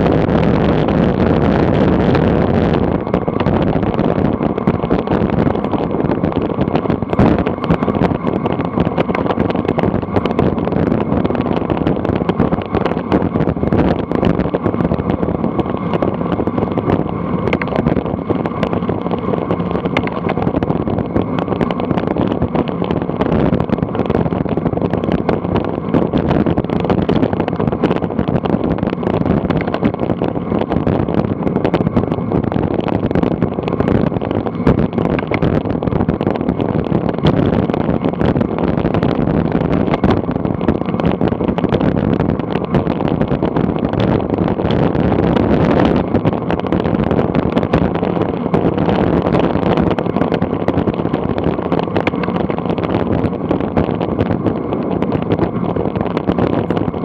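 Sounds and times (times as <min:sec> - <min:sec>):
bicycle tyres on asphalt: 0:00.0 - 0:57.0
wind rushing: 0:00.0 - 0:57.0.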